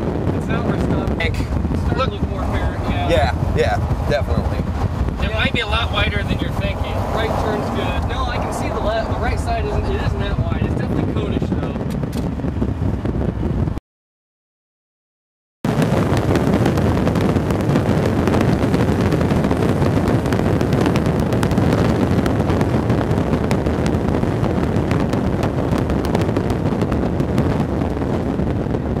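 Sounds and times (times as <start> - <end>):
wind buffeting microphone: 0.0 - 13.8, 15.7 - 29.0.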